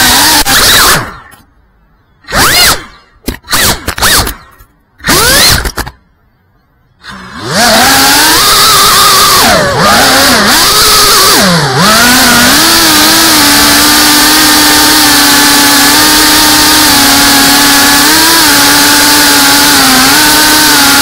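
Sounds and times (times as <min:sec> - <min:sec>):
drone motors whining: 0:00.0 - 0:06.1, 0:06.9 - 0:21.0.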